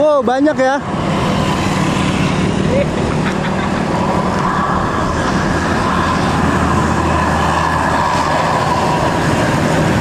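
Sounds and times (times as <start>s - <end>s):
bus diesel engine passing: 0.0s - 10.0s
high whine: 0.8s - 10.0s.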